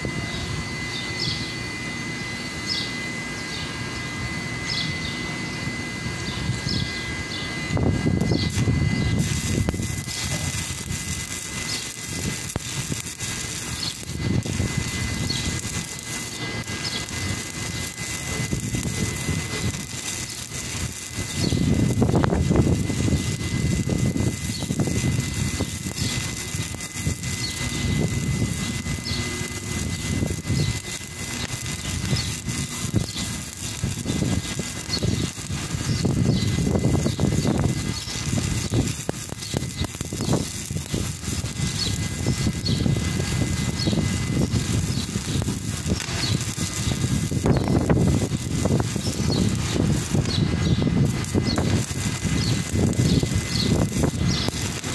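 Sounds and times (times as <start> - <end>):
welding arc crackling hiss: 0.0 - 54.9.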